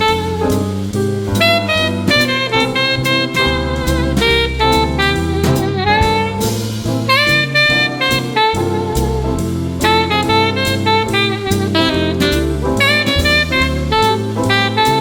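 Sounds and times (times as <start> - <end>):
drum kit: 0.0 - 15.0
saxophone playing jazz melody: 0.0 - 15.0
walking bass: 0.0 - 15.0.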